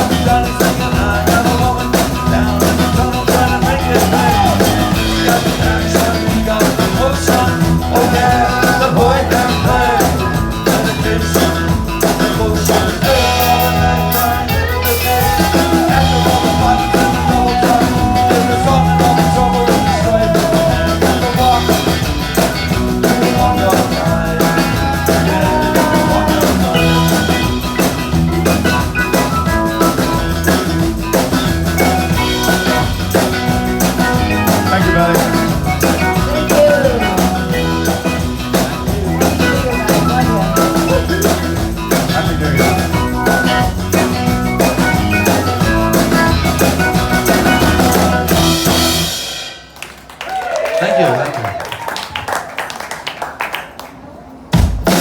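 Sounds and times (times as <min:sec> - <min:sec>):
live rock band playing: 0:00.0 - 0:50.1, 0:54.4 - 0:55.0.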